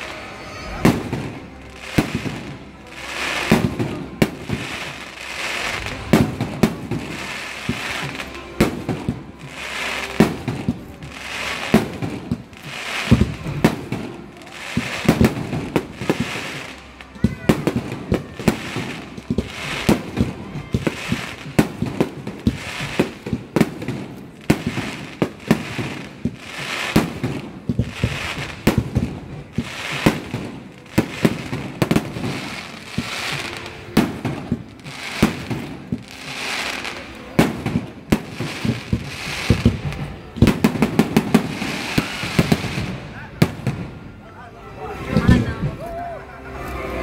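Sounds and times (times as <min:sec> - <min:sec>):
fireworks crackling: 0:00.0 - 0:47.0.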